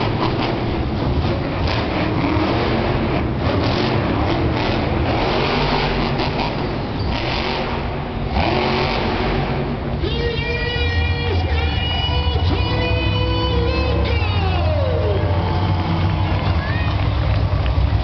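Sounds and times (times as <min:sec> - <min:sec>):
music over arena speakers: 0:00.0 - 0:18.0
truck engines revving hard: 0:00.0 - 0:18.0.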